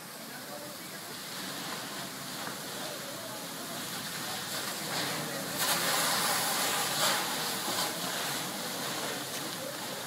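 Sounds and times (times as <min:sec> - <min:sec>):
hose jet spraying water: 0:00.0 - 0:10.0.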